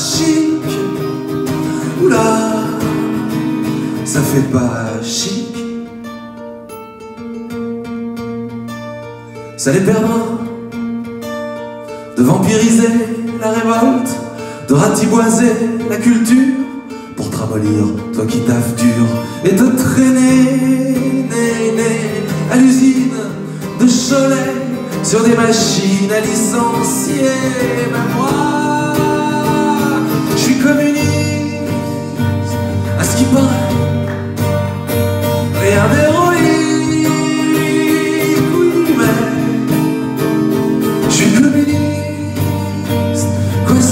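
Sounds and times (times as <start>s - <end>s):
man singing: 0.0s - 5.9s, 9.5s - 10.7s, 12.1s - 34.2s, 35.3s - 43.9s
acoustic guitar strumming: 0.0s - 43.9s.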